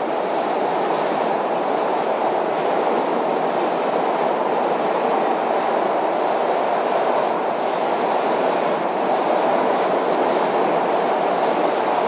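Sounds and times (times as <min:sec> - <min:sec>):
subway car rumbling: 0:00.0 - 0:12.0.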